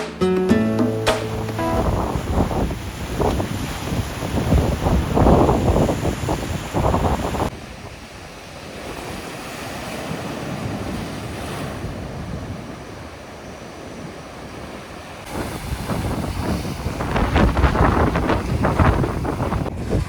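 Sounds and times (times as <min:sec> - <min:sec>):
surf washing onto beach: 0:01.2 - 0:20.0
wind buffeting microphone: 0:01.9 - 0:20.0.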